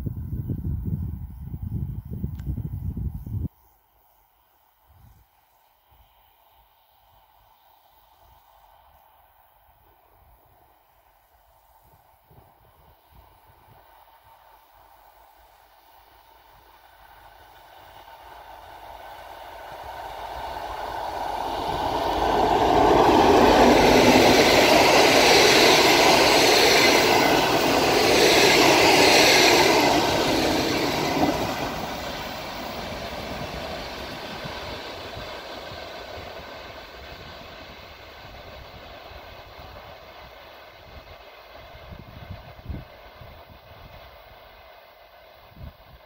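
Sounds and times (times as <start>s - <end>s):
train wheels on rails: 5.0s - 46.0s
diesel locomotive engine: 5.8s - 46.0s.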